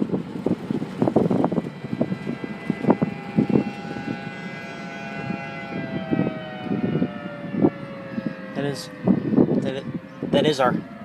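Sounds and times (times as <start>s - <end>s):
distant warning siren wailing: 0.0s - 11.0s
wind buffeting microphone: 0.0s - 11.0s.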